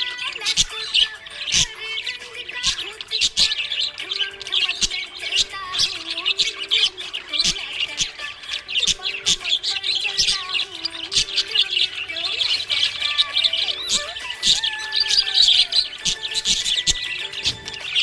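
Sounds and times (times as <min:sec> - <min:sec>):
parrots chirping: 0:00.0 - 0:18.0.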